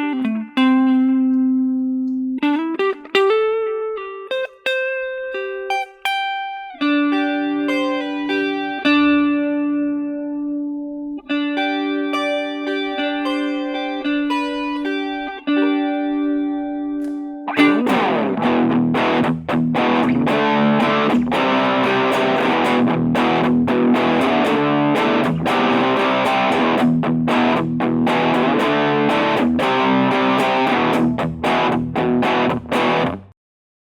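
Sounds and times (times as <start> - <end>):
distorted electric guitar chords: 0.0 - 33.3.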